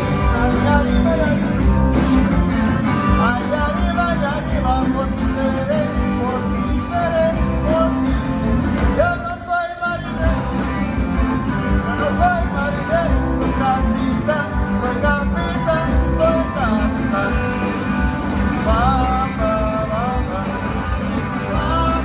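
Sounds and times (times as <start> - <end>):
guitar: 0.0 - 22.0
live rock band playing: 0.0 - 22.0.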